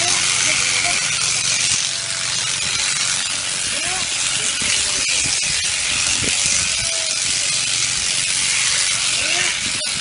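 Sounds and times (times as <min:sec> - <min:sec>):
sheep shearing handpiece hissing: 0:00.0 - 0:10.0.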